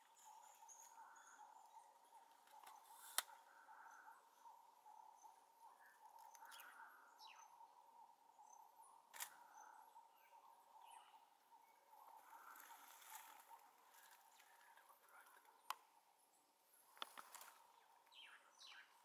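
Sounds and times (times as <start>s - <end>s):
faint bush ambience: 0.0s - 19.0s
faint steady tone: 0.0s - 19.0s.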